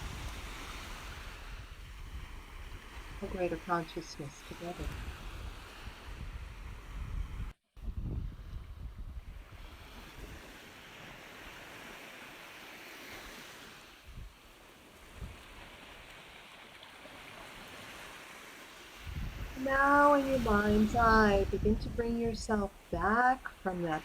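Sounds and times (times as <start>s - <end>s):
ocean waves: 0.0s - 7.5s, 8.5s - 24.0s.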